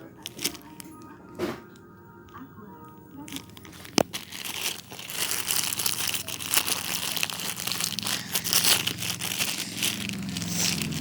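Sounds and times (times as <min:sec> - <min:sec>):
plastic packaging crinkling: 0:00.0 - 0:01.4, 0:02.9 - 0:11.0.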